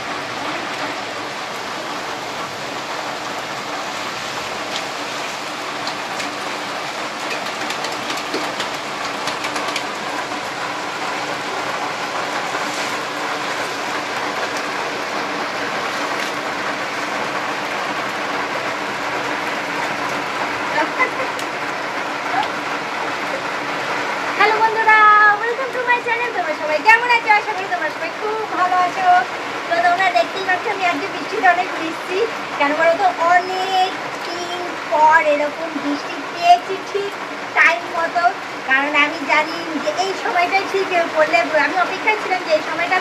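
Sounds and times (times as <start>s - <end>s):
heavy rain on standing water: 0.0s - 43.0s.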